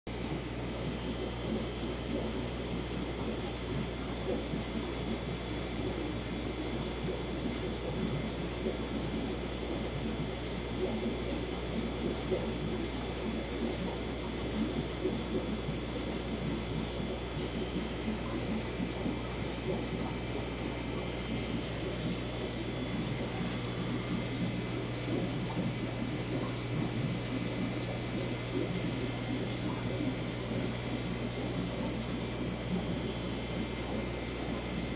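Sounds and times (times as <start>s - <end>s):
aquarium equipment hum and bubbling: 0.1s - 34.9s
cricket chirping: 0.1s - 34.9s.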